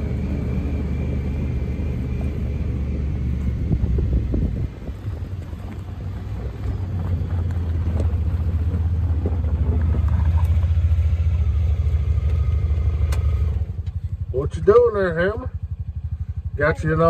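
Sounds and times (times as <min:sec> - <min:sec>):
engine low rumble: 0:00.0 - 0:17.0.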